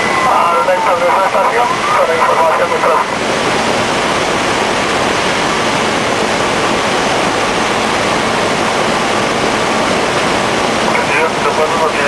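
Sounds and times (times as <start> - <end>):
light aircraft cockpit noise: 0.0 - 12.0.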